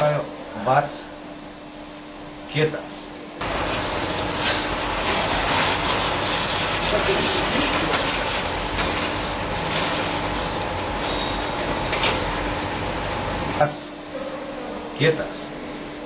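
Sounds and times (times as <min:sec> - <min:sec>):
machine noise with low hum: 0:00.0 - 0:16.0.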